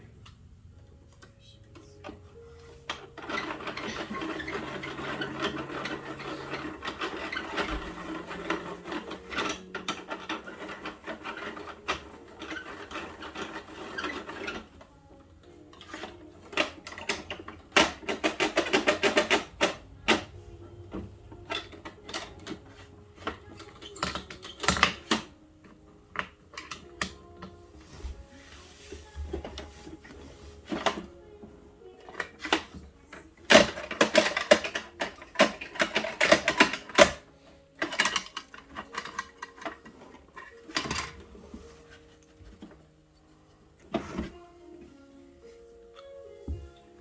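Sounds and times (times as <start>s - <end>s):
plastic parts rubbing and scraping: 2.0s - 44.9s.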